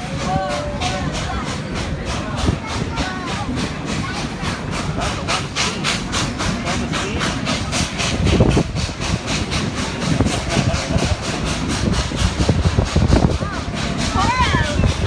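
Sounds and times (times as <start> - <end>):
low rumble of moving train: 0.0 - 15.0
steam locomotive chuffing: 0.0 - 15.0.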